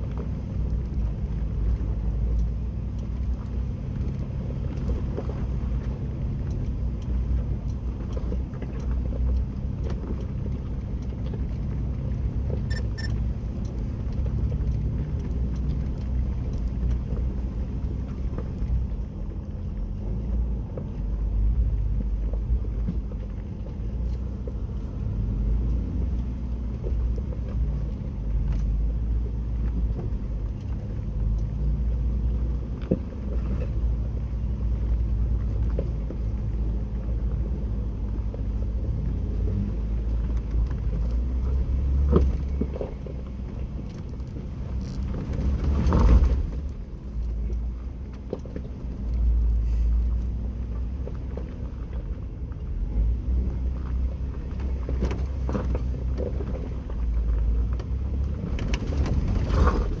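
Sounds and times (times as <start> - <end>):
low engine and drivetrain rumble: 0.0 - 60.0.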